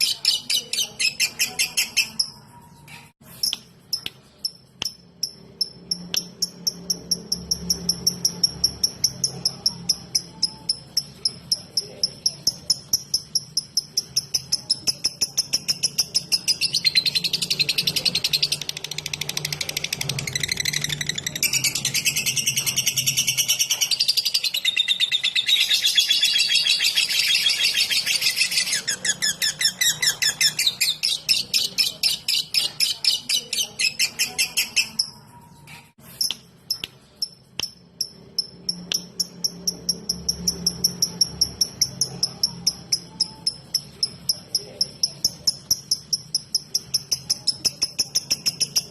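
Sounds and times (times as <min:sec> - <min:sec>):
lovebird rapid high-pitched ticks: 0:03.4 - 0:35.2, 0:36.2 - 0:48.9.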